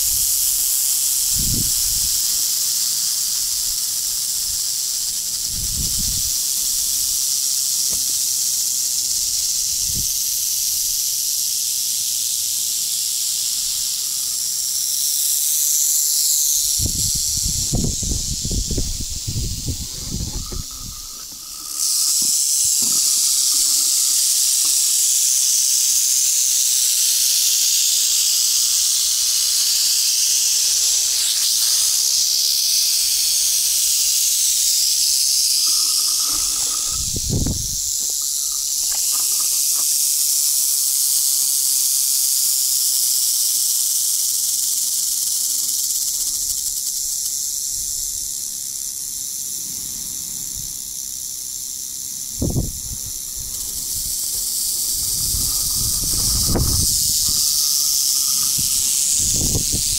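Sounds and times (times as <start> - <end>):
rattlesnakes rattling: 0.0 - 59.9.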